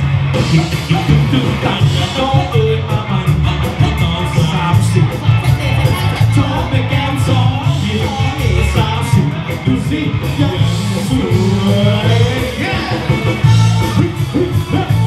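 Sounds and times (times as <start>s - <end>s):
heavy bass beat: 0.0s - 15.0s
live band music over a pa: 0.0s - 15.0s
man singing: 0.3s - 15.0s.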